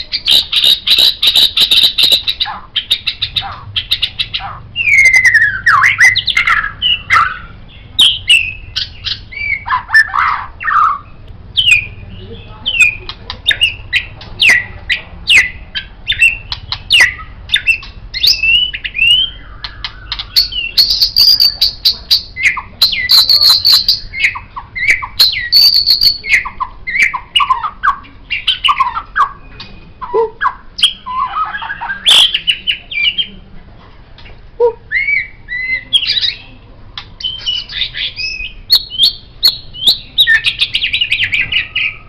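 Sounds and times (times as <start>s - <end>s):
songbird singing: 0.0s - 42.0s.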